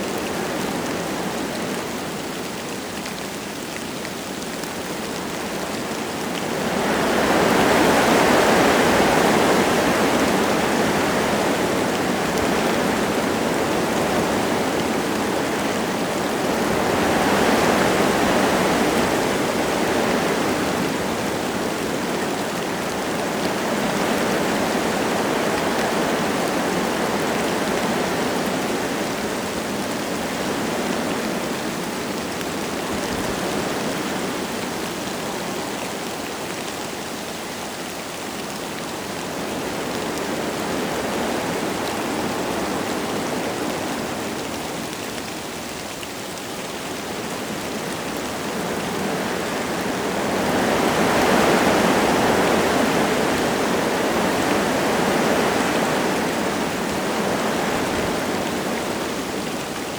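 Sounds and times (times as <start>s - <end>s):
light rain falling: 0.0s - 59.9s
wind through forest trees: 0.0s - 59.9s.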